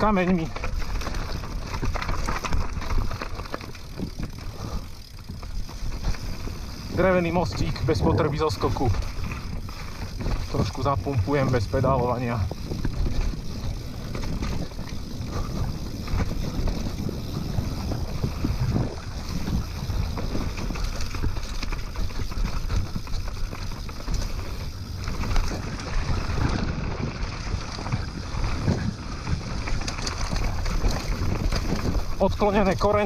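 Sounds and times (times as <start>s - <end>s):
bike rattling and knocking: 0.0s - 33.0s
bike tyres rumbling on dirt: 0.0s - 33.0s
wind buffeting microphone: 0.0s - 33.0s.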